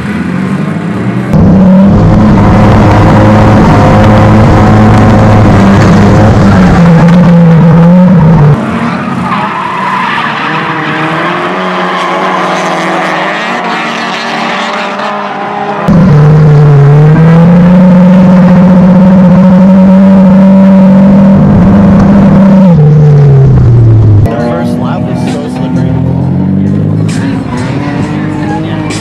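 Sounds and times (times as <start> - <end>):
car engine at high revs: 0.0 - 29.0.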